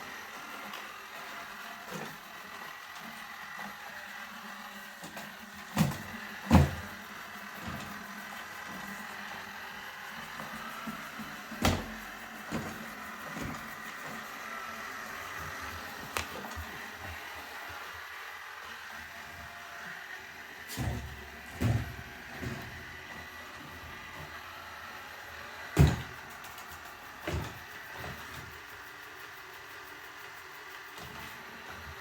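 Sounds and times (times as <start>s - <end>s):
robot vacuum whirring: 0.0s - 32.0s.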